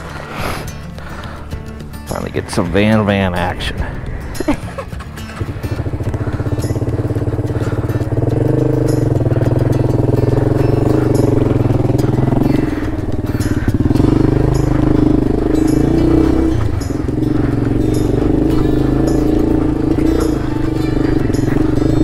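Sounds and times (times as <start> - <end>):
motorcycle engine under load: 3.9 - 22.0.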